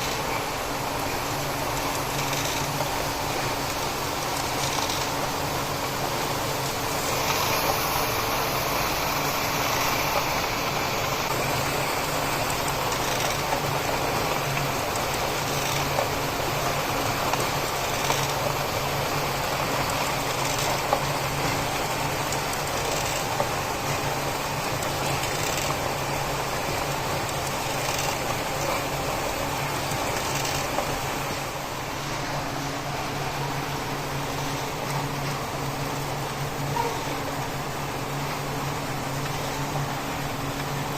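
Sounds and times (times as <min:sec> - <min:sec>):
machine running with low hum: 0:00.0 - 0:40.9.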